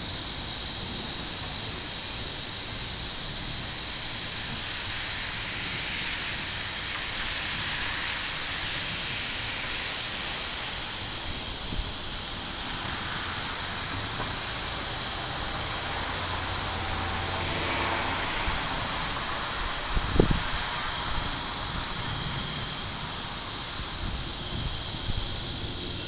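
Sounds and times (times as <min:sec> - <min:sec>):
thunderstorm hiss: 0:00.0 - 0:26.0.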